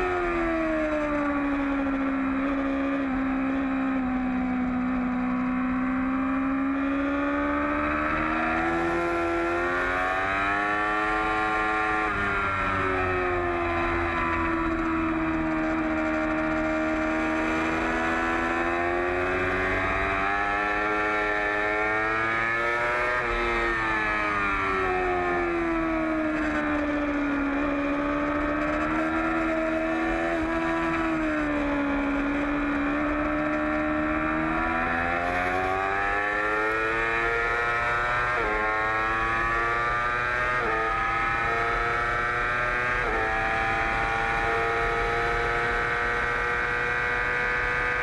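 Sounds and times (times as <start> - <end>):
motorcycle engine at high revs: 0.0 - 48.0.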